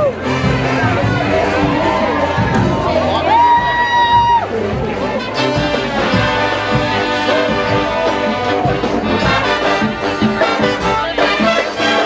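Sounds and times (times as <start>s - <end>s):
brass instruments playing: 0.0s - 12.0s.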